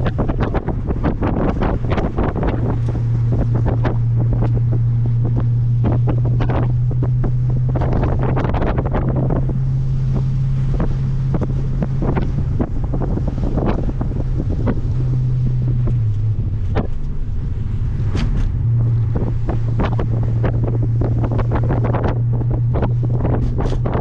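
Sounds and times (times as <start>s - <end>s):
car engine droning: 0.0s - 24.0s
wind buffeting microphone: 0.0s - 24.0s.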